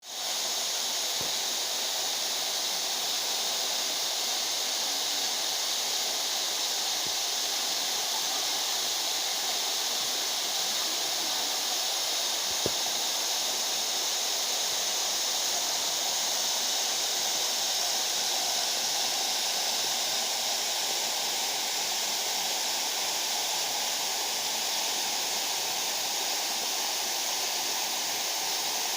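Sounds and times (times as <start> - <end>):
waterfall rushing: 0.1 - 28.9.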